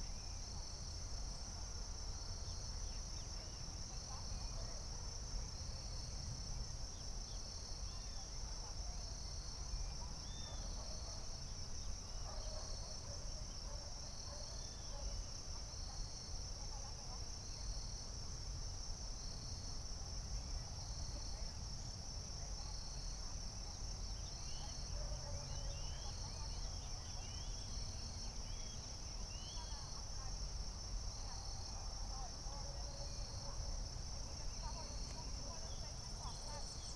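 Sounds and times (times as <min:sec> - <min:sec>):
high insect chorus: 0:00.0 - 0:36.9.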